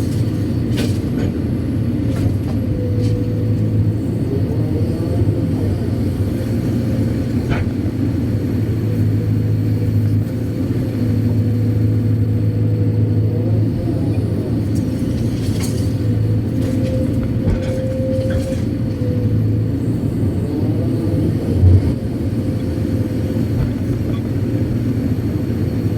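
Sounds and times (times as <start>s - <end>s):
excavator diesel engine running: 0.0s - 25.9s
wavering machine whine: 1.6s - 25.9s.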